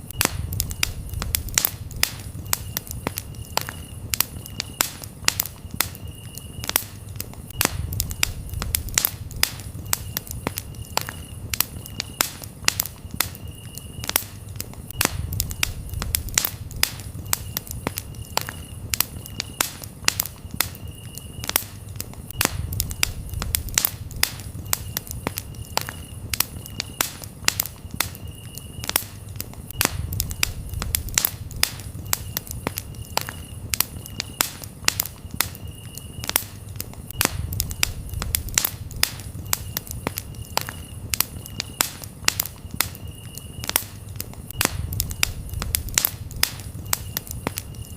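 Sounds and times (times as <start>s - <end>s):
campfire crackling and popping: 0.0s - 47.9s
low rumble of flames: 0.0s - 47.9s
crickets chirping: 0.1s - 47.9s.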